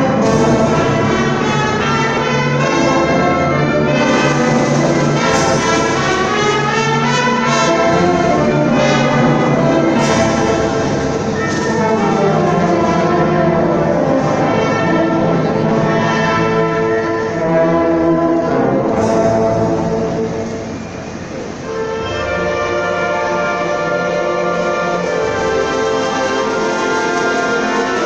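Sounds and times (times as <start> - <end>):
brass playing chords: 0.0 - 28.0
strings: 0.0 - 28.0.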